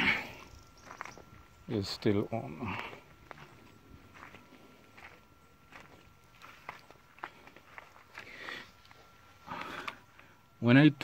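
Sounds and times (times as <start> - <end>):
footsteps on gravel: 0.0 - 10.0.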